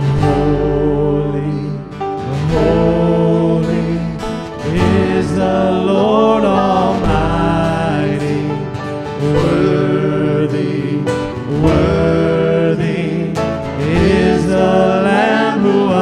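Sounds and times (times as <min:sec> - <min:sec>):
guitar accompaniment: 0:00.0 - 0:16.0
voices singing: 0:00.0 - 0:16.0.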